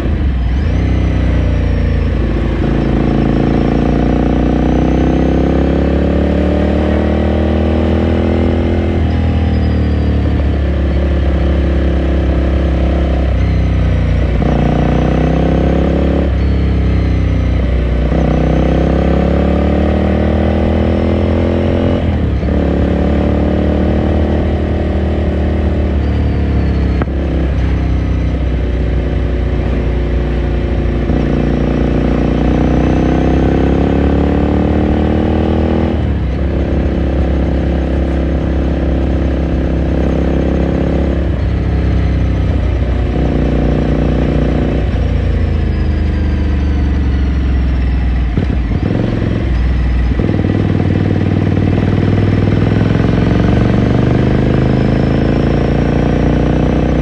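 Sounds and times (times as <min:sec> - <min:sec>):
motorcycle engine pulling through gears: 0:00.0 - 0:57.0.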